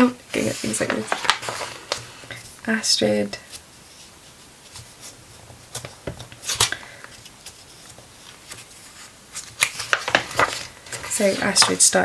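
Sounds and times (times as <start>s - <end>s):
glossy book pages rustling: 0.3s - 2.8s, 3.4s - 12.0s.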